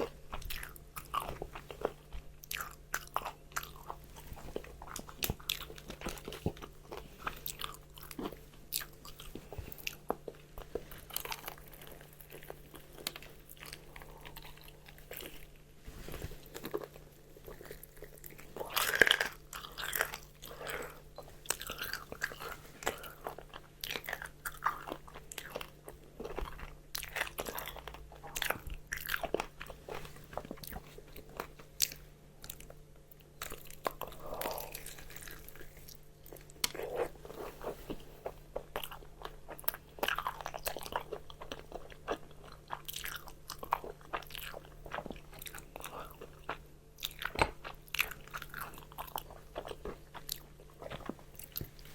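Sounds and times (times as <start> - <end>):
crunchy fried chicken chewing: 0.0 - 51.9.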